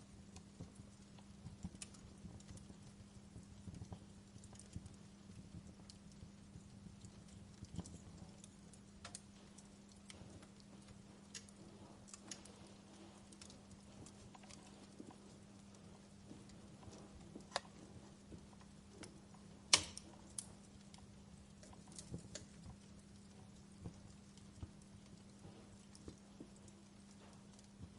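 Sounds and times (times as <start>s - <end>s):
faint low hum: 0.0s - 27.9s
wood fire crackling: 0.0s - 27.9s.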